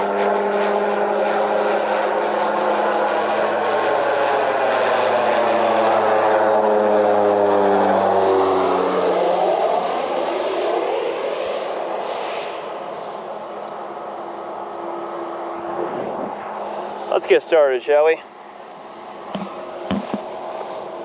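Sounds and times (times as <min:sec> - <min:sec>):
airplane engine passing overhead: 0:00.0 - 0:21.0.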